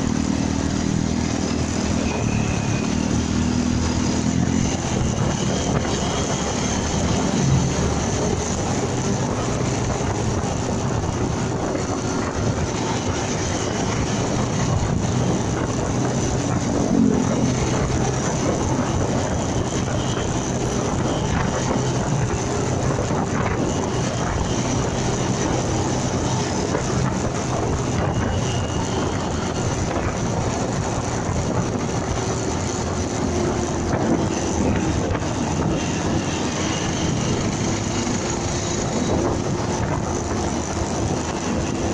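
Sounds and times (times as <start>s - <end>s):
motorcycle engine running: 0.0s - 41.9s
road noise: 0.0s - 41.9s
wind noise: 0.0s - 41.9s.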